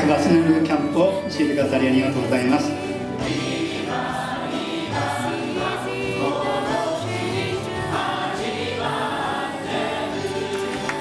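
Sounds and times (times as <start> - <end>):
instrumental accompaniment: 0.0 - 11.0
group of voices singing: 1.2 - 11.0.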